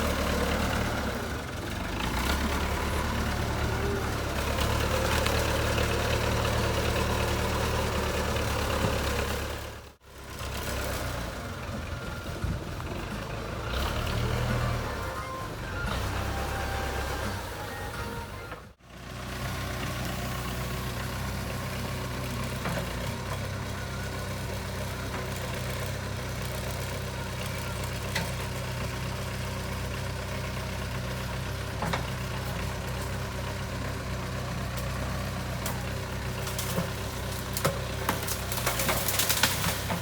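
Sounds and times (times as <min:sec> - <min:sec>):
diesel engine running at low revs: 0:00.0 - 0:40.0.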